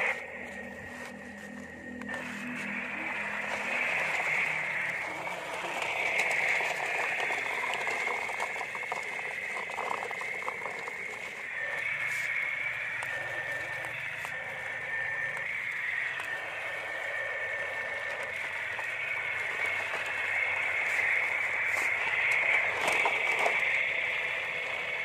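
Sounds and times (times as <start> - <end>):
gravel crackling under tyres: 0.0 - 25.0
toy gear motor whining: 0.0 - 25.0.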